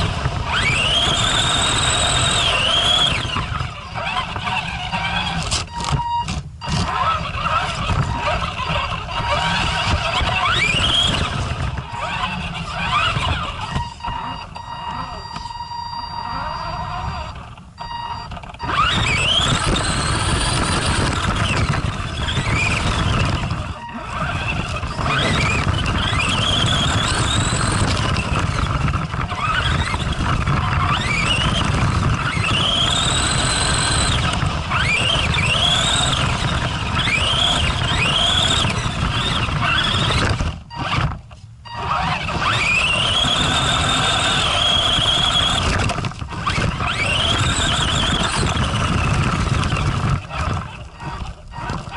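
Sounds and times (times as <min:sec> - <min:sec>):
tyres rumbling on icy ground: 0:00.0 - 0:15.5, 0:18.2 - 0:51.9
electric motor whining: 0:00.0 - 0:51.9.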